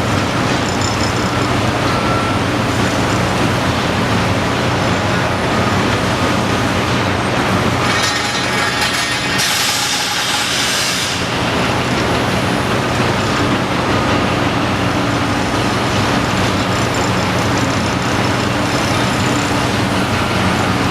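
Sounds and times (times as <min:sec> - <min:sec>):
excavator diesel engine running: 0:00.0 - 0:09.4, 0:10.0 - 0:20.9.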